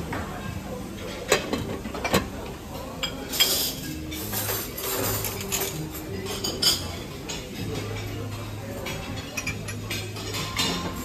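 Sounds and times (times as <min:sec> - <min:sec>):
dishes and cutlery clinking: 0:00.0 - 0:11.0.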